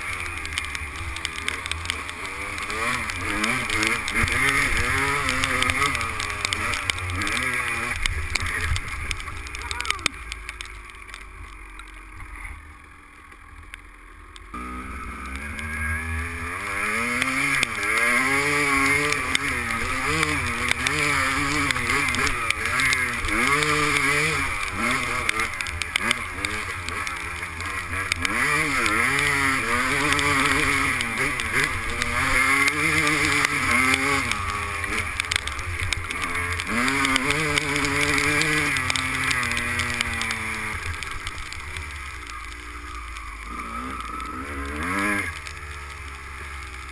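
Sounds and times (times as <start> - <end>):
motocross bike engine revving: 0.0 - 13.5, 14.2 - 46.9.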